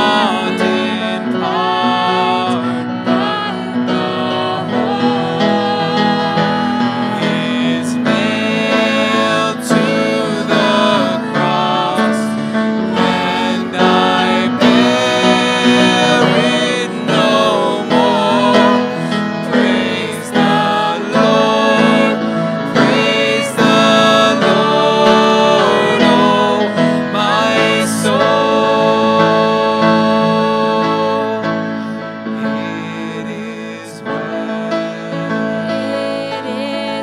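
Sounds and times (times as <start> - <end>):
man and woman singing: 0.0 - 31.7, 32.3 - 37.0
grand piano: 0.0 - 37.0.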